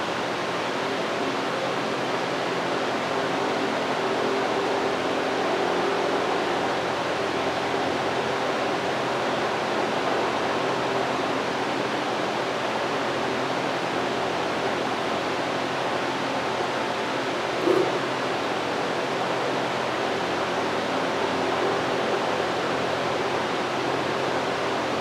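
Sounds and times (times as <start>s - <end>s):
router fan hiss and hum: 0.0s - 25.0s.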